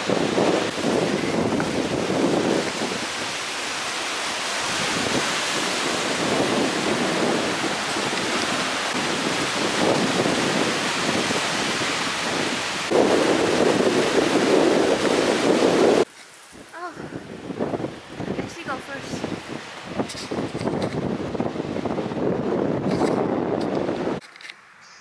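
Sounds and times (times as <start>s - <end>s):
ocean surf breaking over rocks: 0.0s - 22.7s
wind buffeting microphone: 0.0s - 24.2s.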